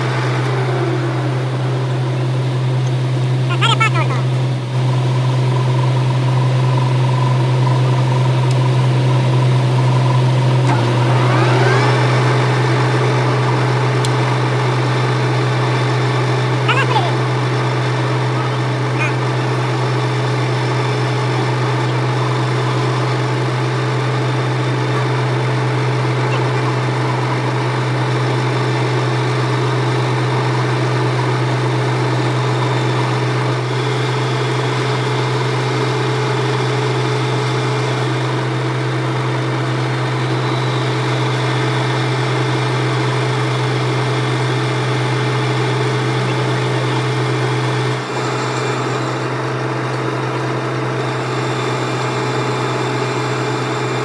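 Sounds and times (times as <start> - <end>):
workshop machinery humming: 0.0 - 54.0.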